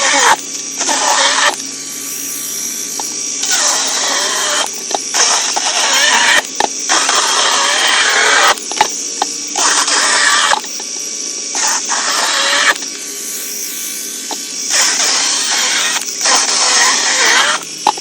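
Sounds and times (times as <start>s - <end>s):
chainsaw cutting wood: 0.0s - 10.8s, 11.5s - 13.4s, 14.3s - 18.0s
chainsaw motor whirring: 0.0s - 18.0s.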